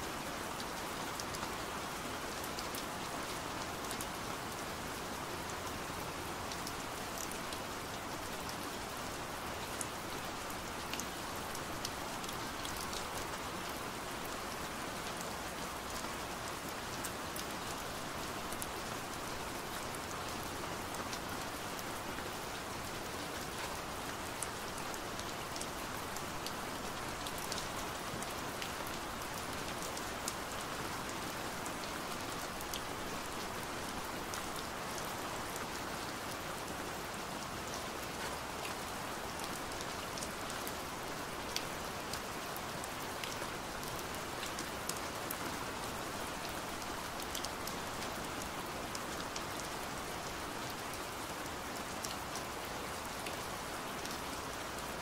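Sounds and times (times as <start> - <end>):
rain falling on a window: 0.0 - 55.0.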